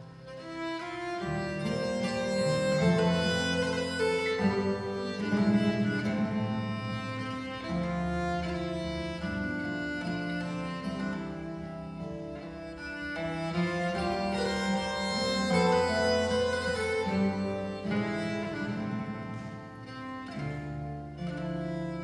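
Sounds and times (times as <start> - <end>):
bowed string instruments: 0.0 - 22.0
instrumental folk music: 0.0 - 22.0.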